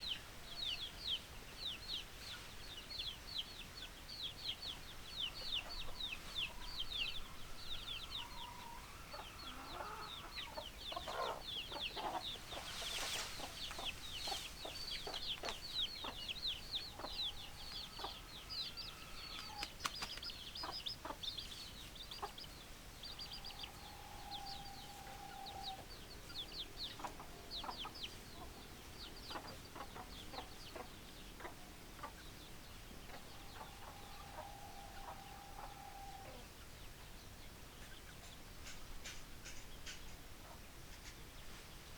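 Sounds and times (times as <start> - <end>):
rustle: 0.0 - 41.9
chickens clucking: 0.1 - 41.7
chicks peeping: 0.1 - 41.7.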